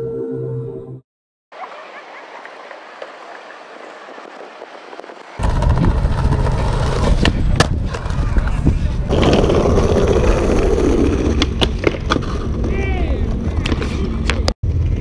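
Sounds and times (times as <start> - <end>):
skateboard wheels rolling on paving: 2.2 - 15.0.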